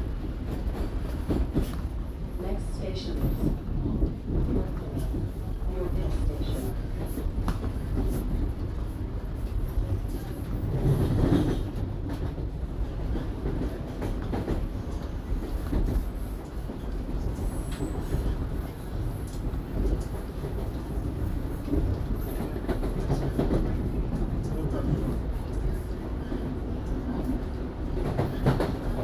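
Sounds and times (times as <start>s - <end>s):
subway train wheels rumbling: 0.0s - 29.0s.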